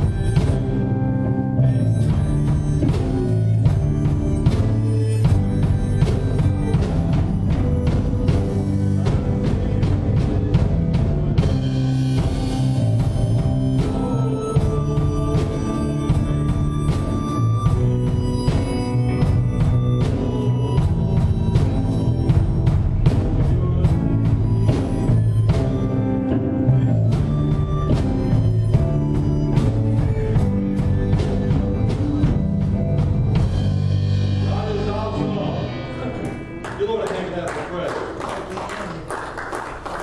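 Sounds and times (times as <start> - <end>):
drum kit beat: 0.0 - 38.2
guitar: 0.0 - 40.0.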